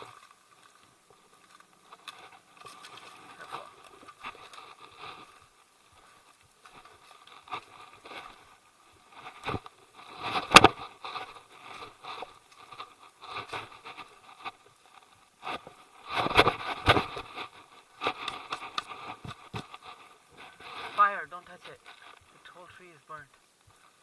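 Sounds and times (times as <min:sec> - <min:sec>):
footsteps on a trail: 0:00.0 - 0:22.7.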